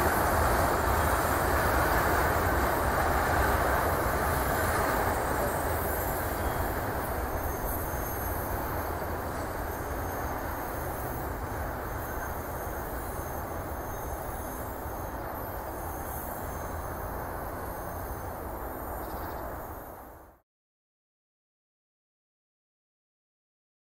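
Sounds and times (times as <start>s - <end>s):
train wheels on rails: 0.0s - 20.2s.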